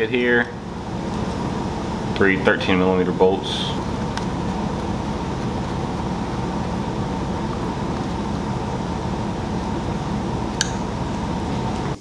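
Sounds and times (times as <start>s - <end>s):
mechanical drone with hum: 0.0s - 12.0s.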